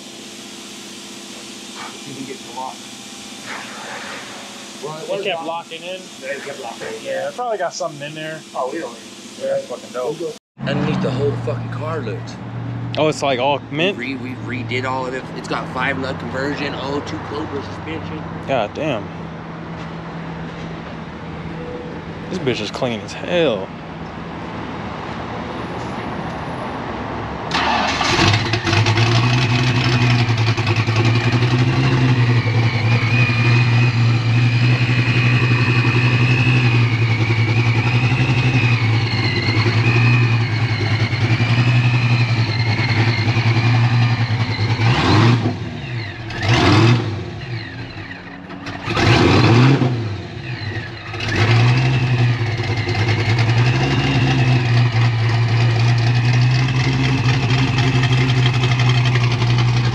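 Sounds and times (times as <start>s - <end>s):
engine revving: 0.0s - 19.1s, 27.0s - 59.9s
car engine starting and idling: 3.4s - 19.6s, 27.3s - 59.9s.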